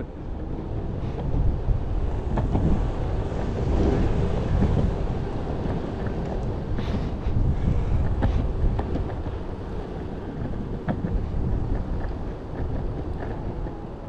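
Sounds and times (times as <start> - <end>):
skateboard wheels rolling on asphalt: 0.0 - 14.0
wind buffeting microphone: 0.0 - 14.0.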